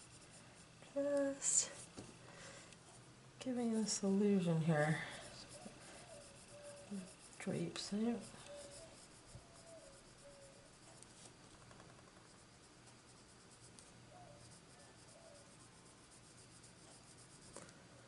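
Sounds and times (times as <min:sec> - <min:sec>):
pencil scratching on paper: 0:00.0 - 0:02.0, 0:03.0 - 0:11.4, 0:12.0 - 0:17.7.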